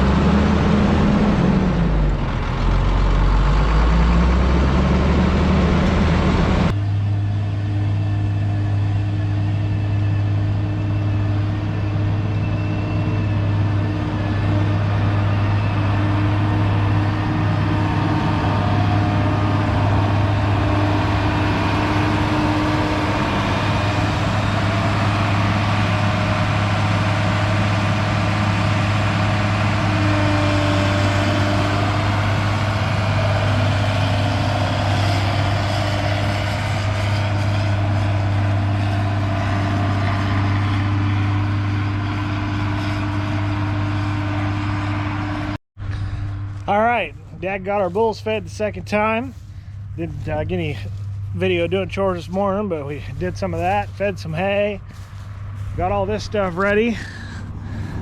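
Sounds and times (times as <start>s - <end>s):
large engine running steadily: 0.0s - 58.0s.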